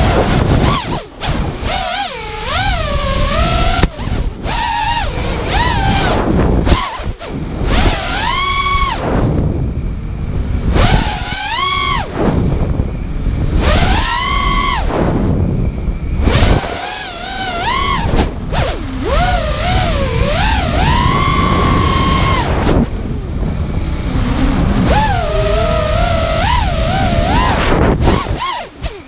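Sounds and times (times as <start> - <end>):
drone motors whining: 0.0 - 29.0
rushing air: 0.0 - 29.0.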